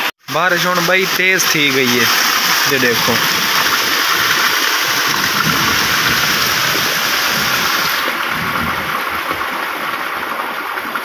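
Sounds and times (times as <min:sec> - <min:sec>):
heavy rain pouring: 0:00.3 - 0:11.0.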